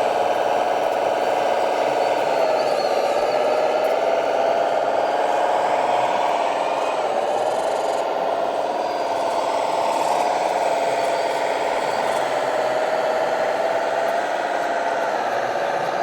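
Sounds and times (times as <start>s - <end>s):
model truck motor whine: 0.0s - 16.0s.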